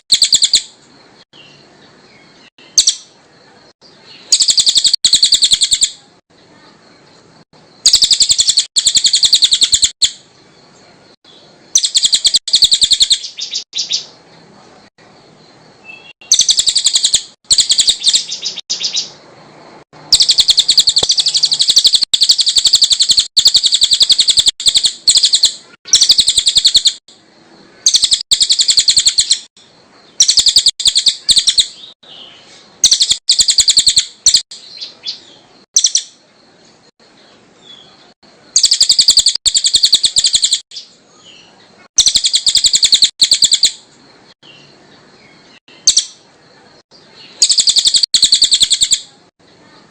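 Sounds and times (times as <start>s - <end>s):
songbird chattering trills: 0.0s - 14.3s, 15.6s - 19.2s, 20.0s - 27.0s, 27.6s - 49.9s.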